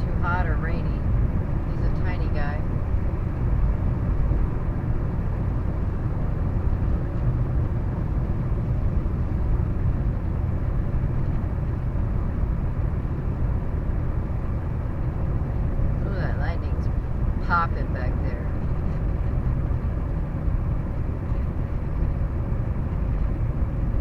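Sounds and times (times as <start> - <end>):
car cabin road and engine drone: 0.0 - 24.0.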